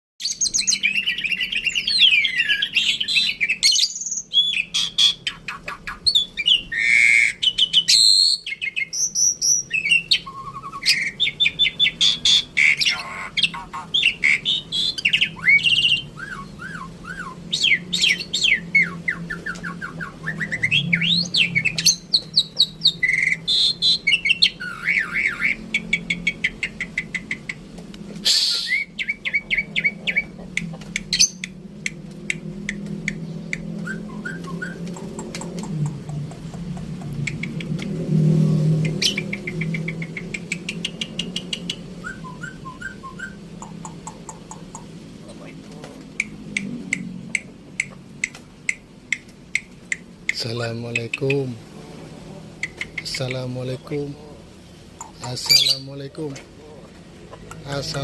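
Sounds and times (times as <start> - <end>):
songbirds singing: 0.2 - 58.0.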